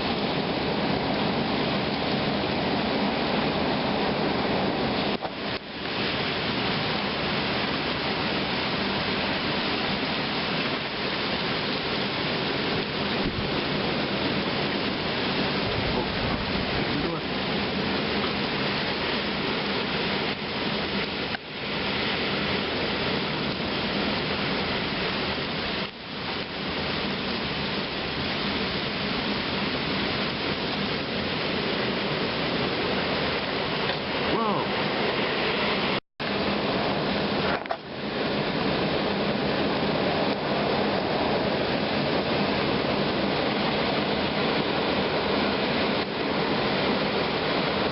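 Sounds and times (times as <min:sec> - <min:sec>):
heavy rain: 0:00.0 - 0:47.9
wind: 0:00.0 - 0:47.9.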